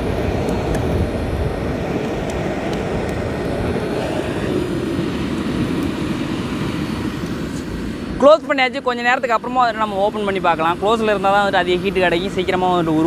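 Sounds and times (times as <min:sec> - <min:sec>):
air blower roaring into fire: 0:00.0 - 0:13.0.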